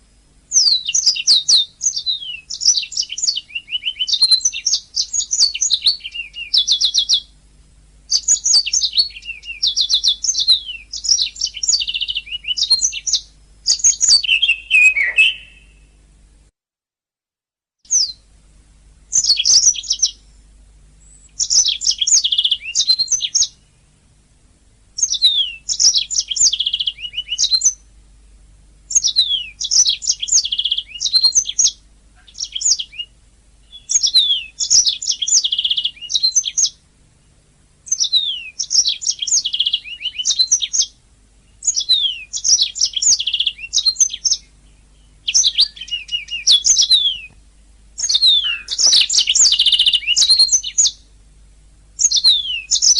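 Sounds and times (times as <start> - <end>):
canary singing trills: 0.5 - 7.4, 8.1 - 16.0, 17.9 - 18.3, 19.1 - 20.4, 21.0 - 24.0, 25.0 - 28.0, 28.9 - 51.1, 52.0 - 52.9.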